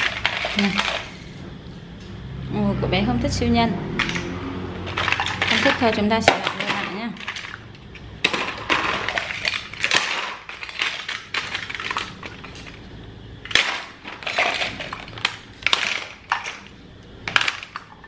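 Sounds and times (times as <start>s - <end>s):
plastic toys clattering: 0.0s - 1.3s, 4.0s - 18.0s.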